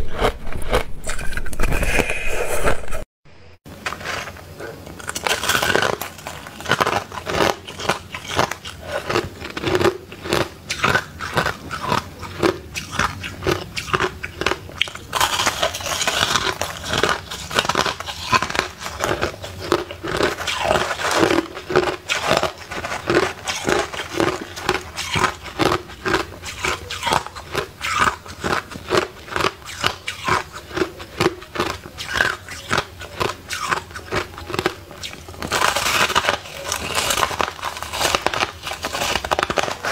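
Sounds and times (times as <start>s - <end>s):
ice crunching while chewed: 3.8s - 39.9s.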